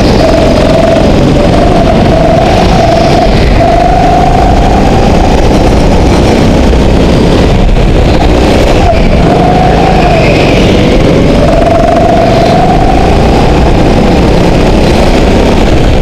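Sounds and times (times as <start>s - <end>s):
go-kart engine running hard: 0.0s - 16.0s.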